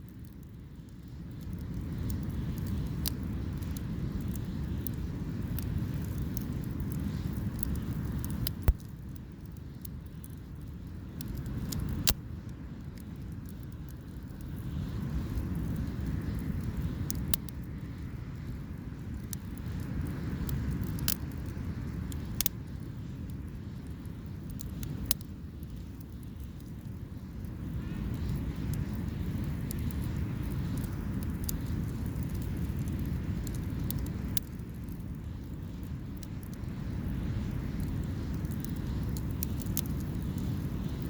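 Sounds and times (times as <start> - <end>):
sharp fire pops: 0.0 - 41.0
wood fire crackling: 0.0 - 41.0.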